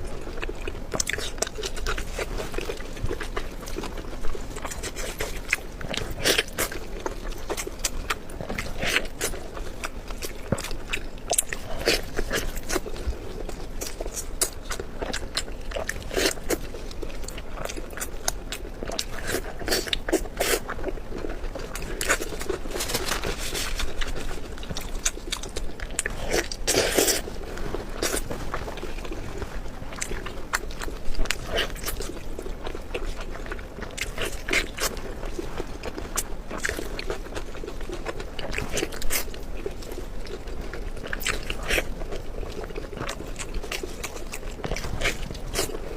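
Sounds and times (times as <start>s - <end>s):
person biting and chewing: 0.2s - 45.9s.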